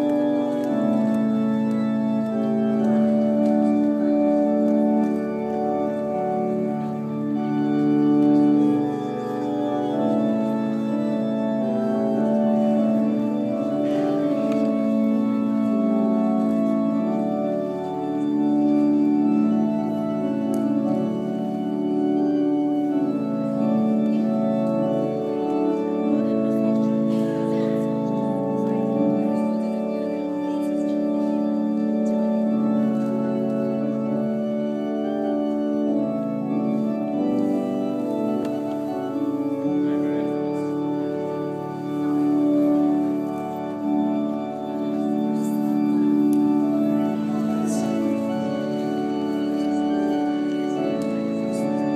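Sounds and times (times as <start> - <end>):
organ playing slow chords: 0.0 - 51.9.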